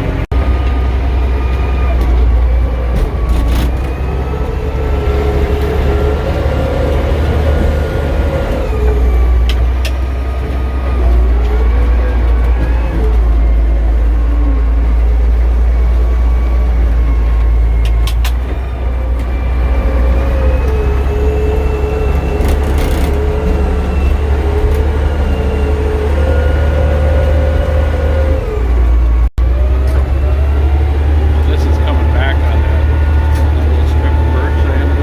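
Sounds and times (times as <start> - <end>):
bulldozer diesel engine under load: 0.0 - 35.0.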